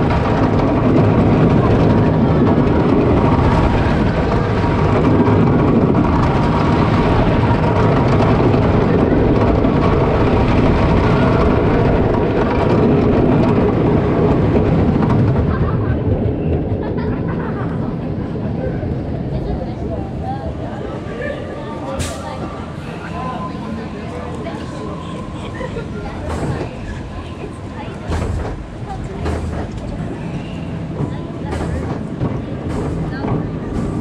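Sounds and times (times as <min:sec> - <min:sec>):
roller coaster rattling on wooden track: 0:00.0 - 0:34.0.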